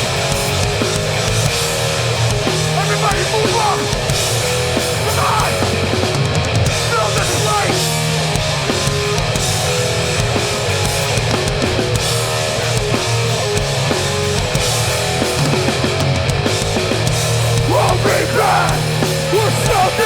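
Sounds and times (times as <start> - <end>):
punk band playing live: 0.0 - 20.0.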